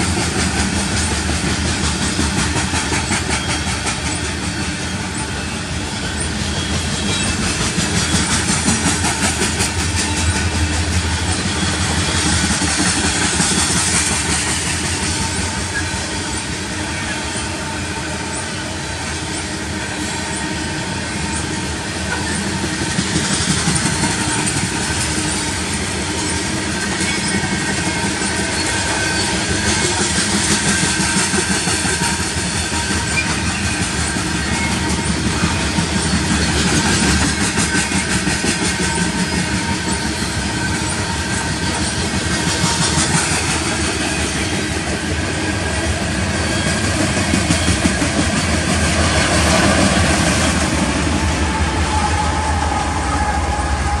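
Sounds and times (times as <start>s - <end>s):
rhythmic clatter of train wheels: 0.0s - 54.0s
steel wheels rumbling on rails: 0.0s - 54.0s.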